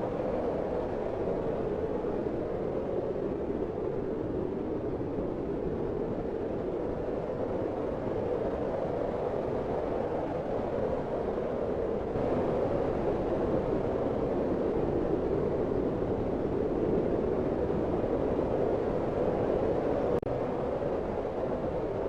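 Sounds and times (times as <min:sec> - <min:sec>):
low rushing wind: 0:00.0 - 0:22.0.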